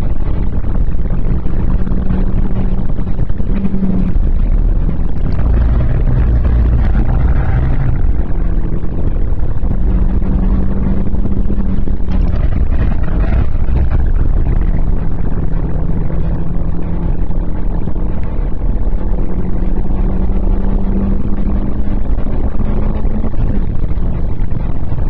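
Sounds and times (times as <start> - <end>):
car engine running hard: 0.0 - 25.0.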